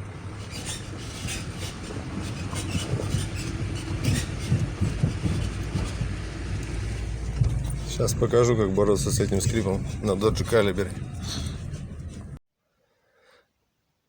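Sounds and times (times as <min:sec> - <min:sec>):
car suspension creaking: 0:00.0 - 0:12.4
low rumble of moving car: 0:00.0 - 0:12.4.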